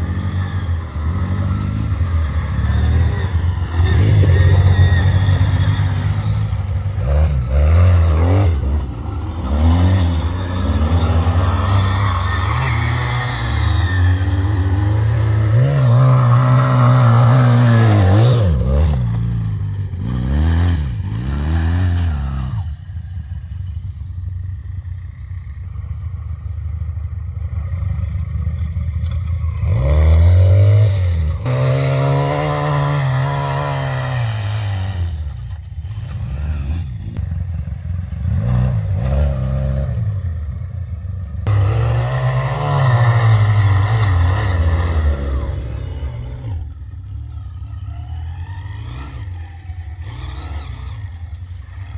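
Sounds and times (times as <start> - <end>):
quad bike engines revving: 0.0 - 51.9.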